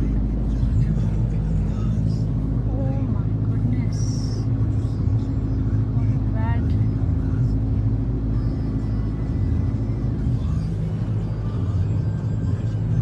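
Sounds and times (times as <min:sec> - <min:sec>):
car driving through floodwater: 0:00.0 - 0:13.0
car engine running at low revs: 0:00.0 - 0:13.0.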